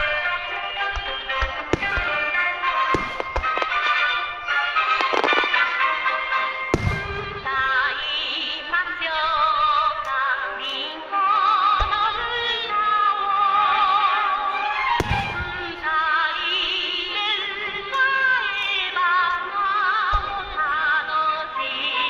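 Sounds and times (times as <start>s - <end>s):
firework shells booming: 0.0s - 10.7s, 11.4s - 21.4s
music with singing over loudspeakers: 0.0s - 22.0s.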